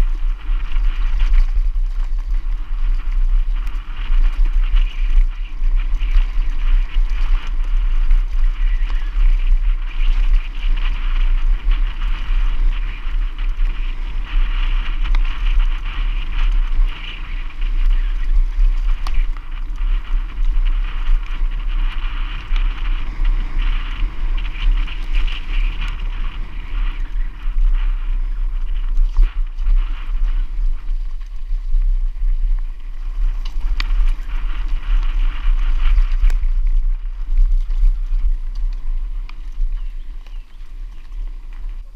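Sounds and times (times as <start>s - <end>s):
bike clicks and rattles: 0.0s - 41.9s
tyre noise on dirt: 0.0s - 41.9s
wind buffeting microphone: 0.0s - 41.9s.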